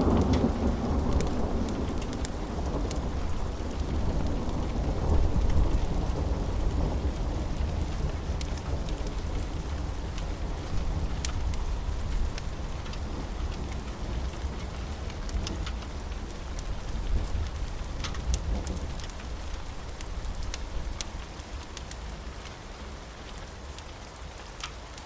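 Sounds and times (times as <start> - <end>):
steady rain: 0.0 - 25.0
wood fire crackling: 0.0 - 25.0.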